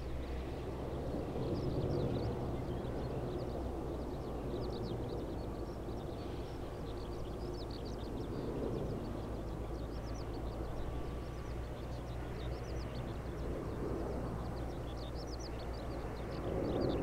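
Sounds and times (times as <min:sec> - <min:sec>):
jet airliner engines rumbling: 0:00.0 - 0:17.0
small birds chirping: 0:01.3 - 0:17.0.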